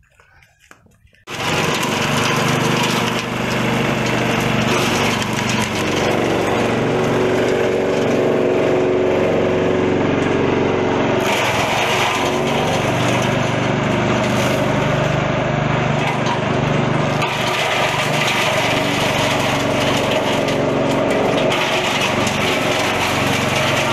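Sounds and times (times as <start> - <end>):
shredder motor hum: 1.3 - 23.9.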